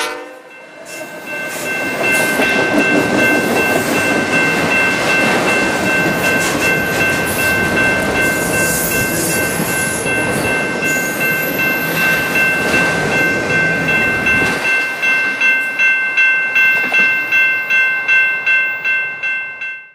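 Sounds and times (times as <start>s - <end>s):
freight train wheels rumbling: 0.0s - 19.5s
crossing bell dinging: 0.0s - 19.9s.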